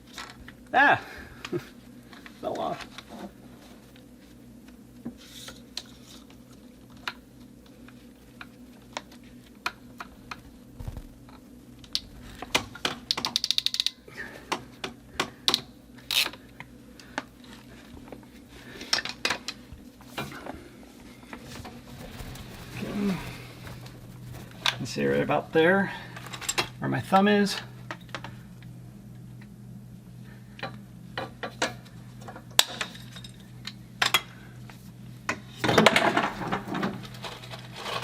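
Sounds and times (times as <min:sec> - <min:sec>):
low hum: 0:03.8 - 0:18.8, 0:19.6 - 0:38.0.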